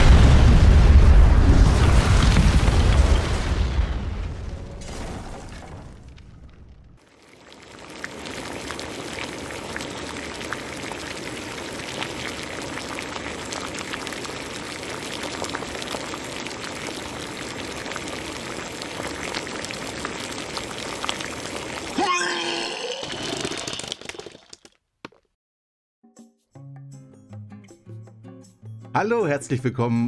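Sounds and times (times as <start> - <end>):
liquid bubbling and fizzing: 0.0 - 25.2.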